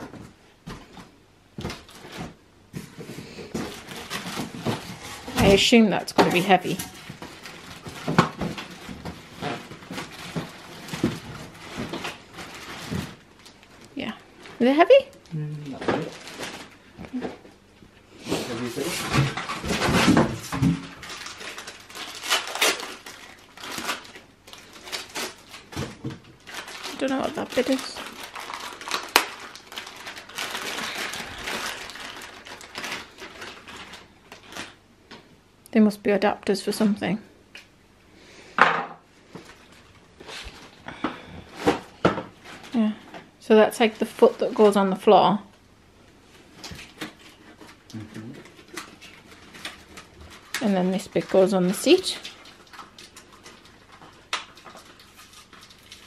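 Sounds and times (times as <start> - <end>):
plastic wrapping crinkling: 0.8 - 17.4, 18.5 - 34.8, 39.3 - 45.1, 46.2 - 56.0.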